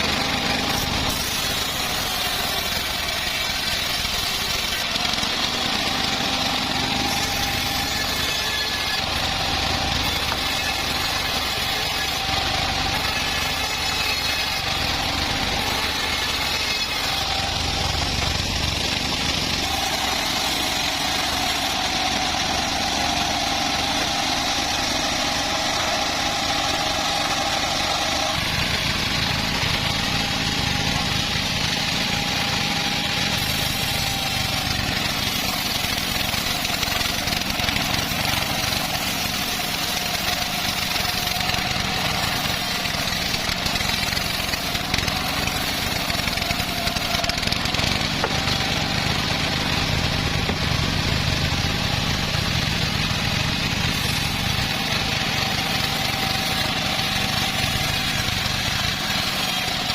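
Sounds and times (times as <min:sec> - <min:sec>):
bandsaw mill drone: 0:00.0 - 0:59.9.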